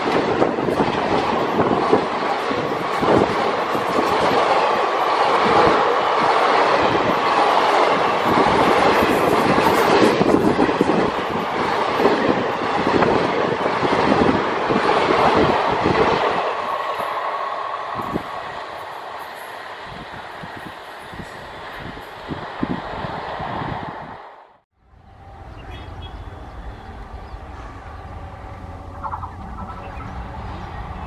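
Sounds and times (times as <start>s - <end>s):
train wheels rumbling on rails: 0.0s - 24.3s, 24.9s - 31.0s.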